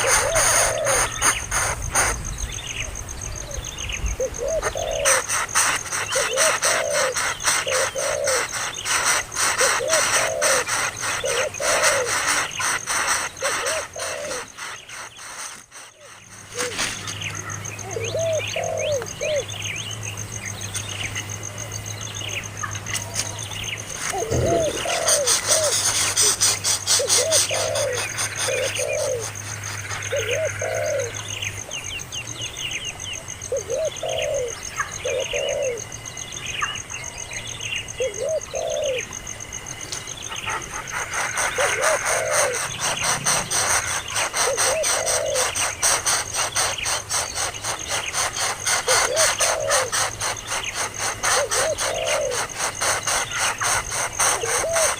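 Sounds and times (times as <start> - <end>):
birds cooing: 0.0 - 31.8, 32.4 - 36.0, 37.8 - 39.2, 39.8 - 54.9
bird chirps: 0.0 - 54.9.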